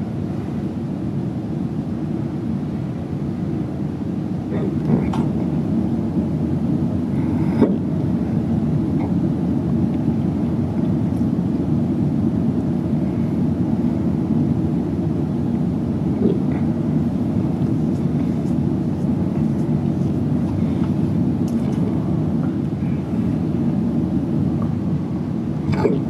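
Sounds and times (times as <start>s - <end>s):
low rumbling drone: 0.0s - 26.0s.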